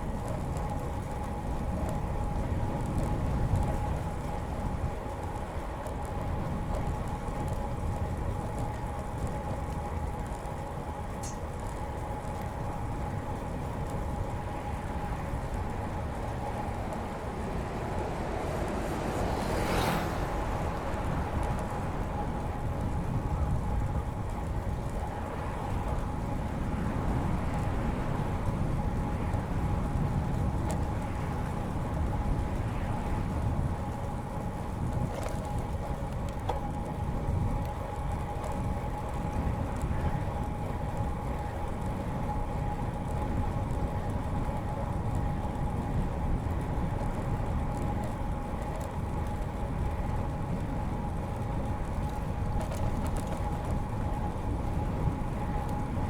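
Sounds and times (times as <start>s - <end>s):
bike tyres rolling on pavement: 0.0s - 56.0s
wind rushing over microphone: 11.0s - 56.0s.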